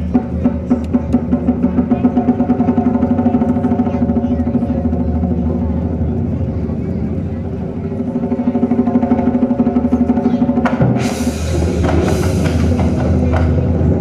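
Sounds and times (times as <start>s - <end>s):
heavy drum strikes: 0.0s - 14.0s
large drums rolling: 0.0s - 14.0s.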